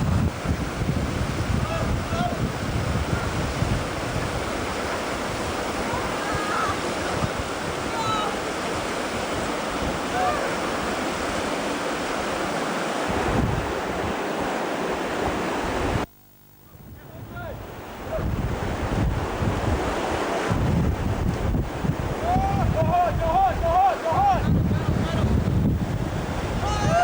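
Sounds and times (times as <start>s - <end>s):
river water rushing: 0.0s - 16.0s, 17.5s - 27.0s
wind buffeting microphone: 0.0s - 16.1s, 16.8s - 27.0s.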